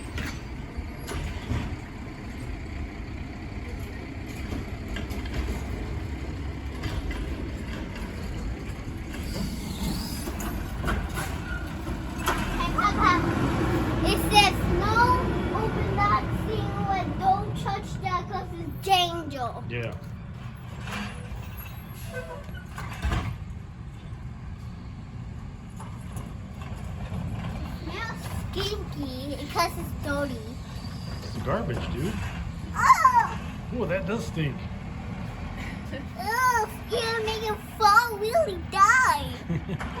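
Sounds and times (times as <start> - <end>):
truck engine rumbling: 0.0 - 40.0.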